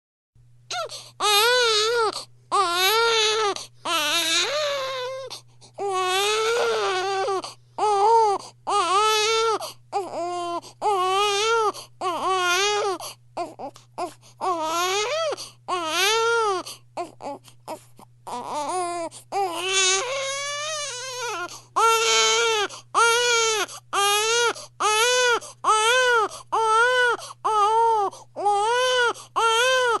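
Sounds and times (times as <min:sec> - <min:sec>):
baby crying: 0:00.7 - 0:30.0.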